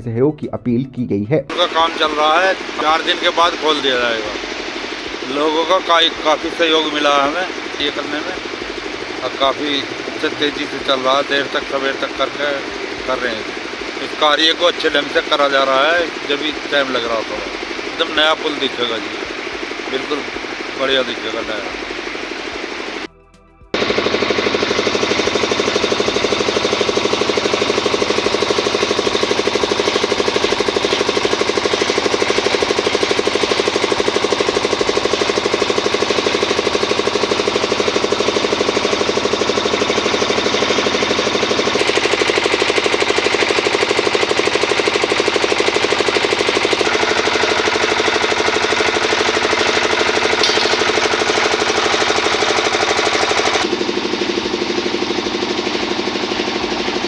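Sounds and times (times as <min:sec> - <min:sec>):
construction machinery engine chattering: 0:01.5 - 0:23.1, 0:23.8 - 0:57.0.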